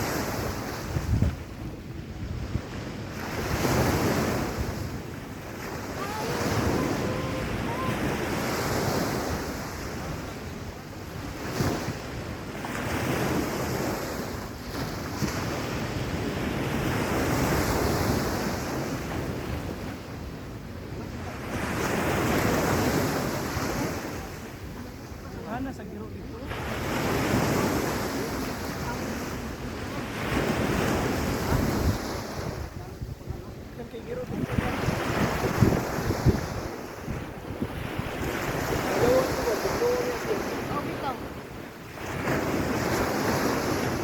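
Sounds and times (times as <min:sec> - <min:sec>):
wind rumbling on microphone: 0:00.0 - 0:25.5, 0:26.3 - 0:44.0
sea waves washing onto beach: 0:00.0 - 0:44.0.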